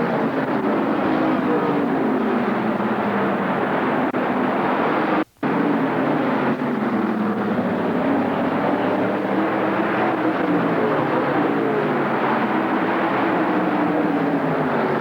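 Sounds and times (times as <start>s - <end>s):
big vehicle engine running: 0.0s - 15.0s.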